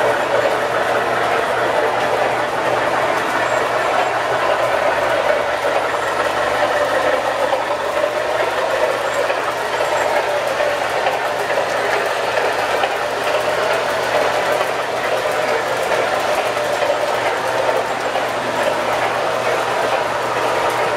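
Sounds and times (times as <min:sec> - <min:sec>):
model train wheels rolling on rails: 0:00.0 - 0:20.9.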